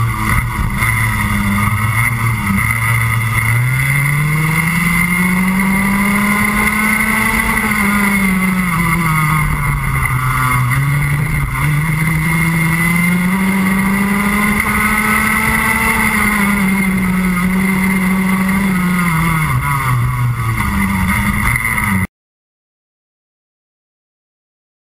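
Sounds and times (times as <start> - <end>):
kart engine revving: 0.0 - 22.1.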